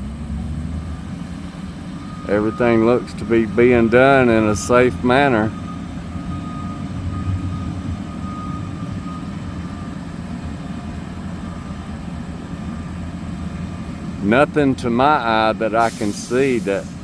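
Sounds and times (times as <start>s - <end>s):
diesel construction equipment rumbling: 0.0s - 17.0s.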